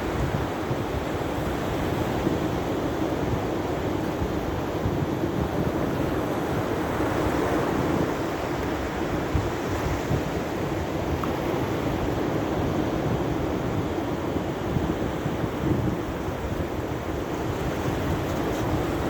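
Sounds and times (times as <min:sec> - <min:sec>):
sea waves washing on shore: 0:00.0 - 0:19.0
wind buffeting microphone: 0:00.0 - 0:19.0.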